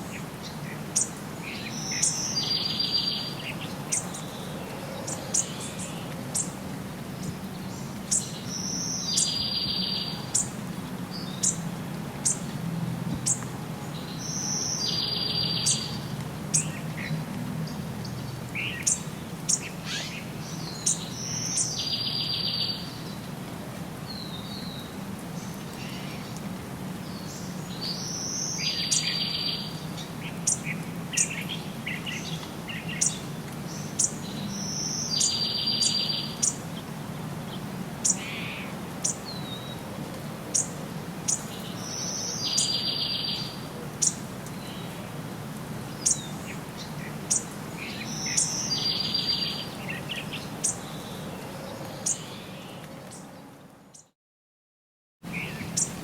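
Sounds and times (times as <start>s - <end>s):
songbirds chirping: 0.0s - 54.2s, 55.2s - 56.0s.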